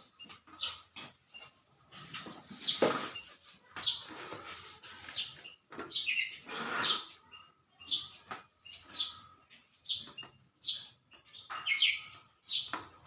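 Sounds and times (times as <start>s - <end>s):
small bird chirping: 0.0s - 1.6s, 2.4s - 13.0s.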